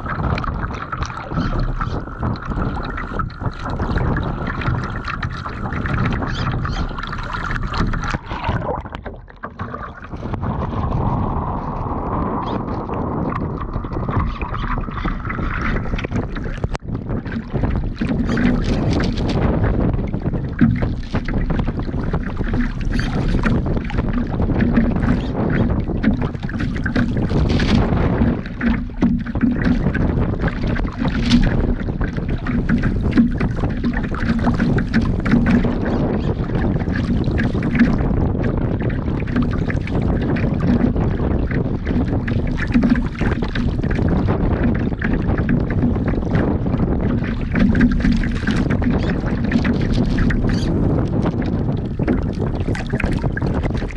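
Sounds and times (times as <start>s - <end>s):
water splashing against a hull: 0.0s - 53.9s
wind buffeting microphone: 0.0s - 53.9s.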